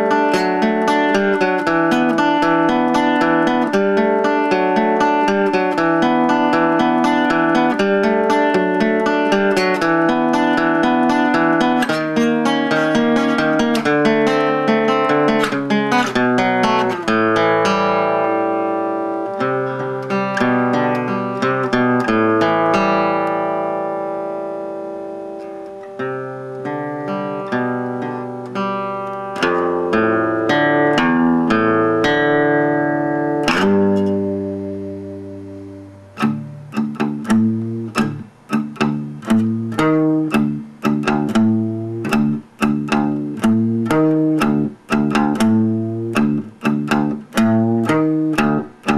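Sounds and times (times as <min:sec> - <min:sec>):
plucked guitar music: 0:00.0 - 0:48.9.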